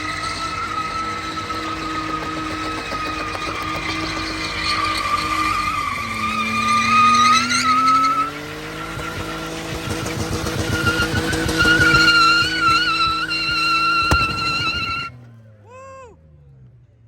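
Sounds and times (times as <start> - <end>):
tyres squealing: 0.0 - 15.2
car engine revving: 0.0 - 15.4.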